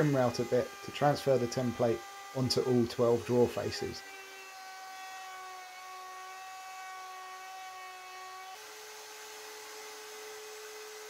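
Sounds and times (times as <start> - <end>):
router motor whine: 0.0 - 11.0.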